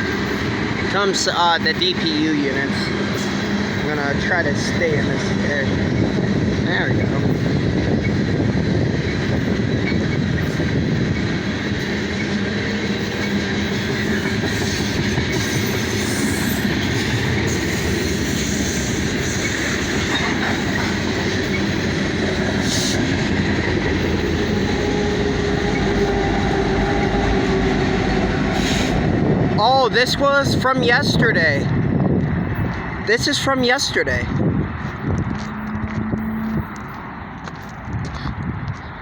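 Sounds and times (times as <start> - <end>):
train wheels on rail: 0.0 - 39.0.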